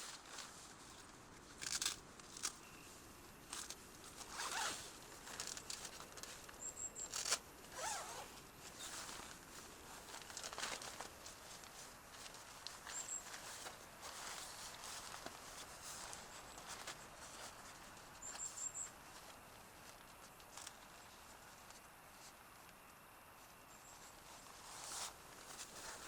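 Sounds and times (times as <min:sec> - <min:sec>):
rustling and scraping: 0:00.0 - 0:26.0.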